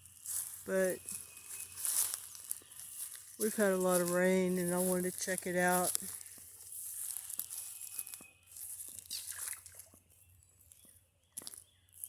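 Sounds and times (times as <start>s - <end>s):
footsteps crunching through dry leaves: 0.0s - 12.0s.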